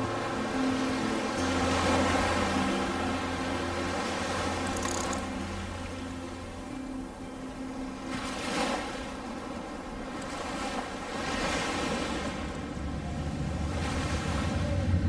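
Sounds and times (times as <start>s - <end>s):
waves washing onto sand: 0.0s - 15.0s.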